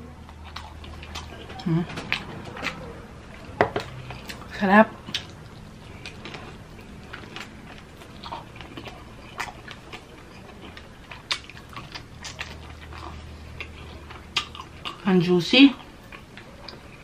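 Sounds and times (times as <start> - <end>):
chewing crunchy fried chicken: 0.2 - 17.0.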